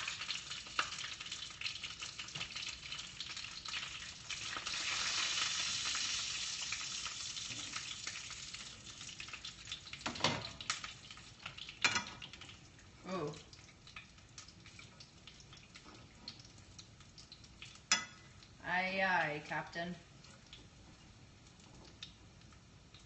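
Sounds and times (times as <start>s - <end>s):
bacon sizzling in a pan: 0.0s - 23.0s.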